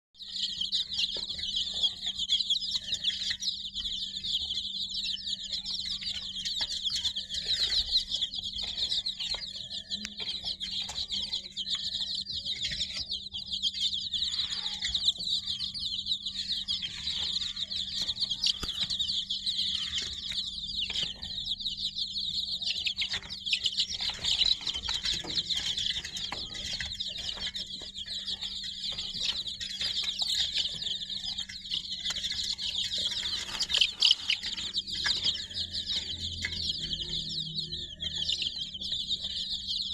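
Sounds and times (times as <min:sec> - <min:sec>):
baby chicks peeping: 0:00.2 - 0:39.9.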